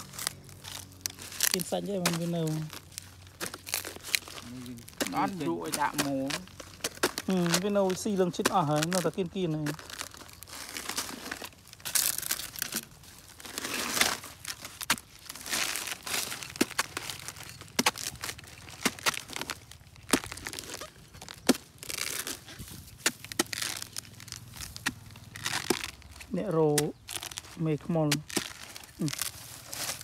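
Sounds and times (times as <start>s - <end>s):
hands tearing fibres: 0.0s - 30.0s
tools chopping rotten wood: 3.4s - 12.9s, 13.5s - 30.0s.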